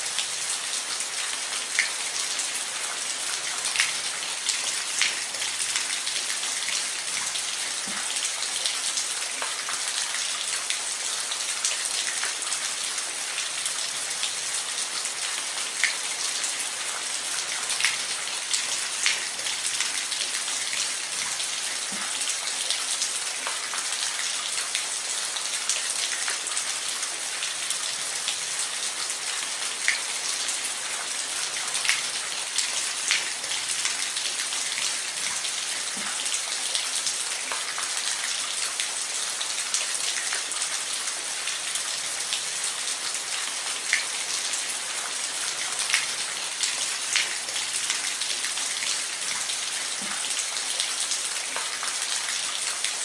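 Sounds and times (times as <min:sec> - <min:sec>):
rain hissing on a roof: 0:00.0 - 0:53.0.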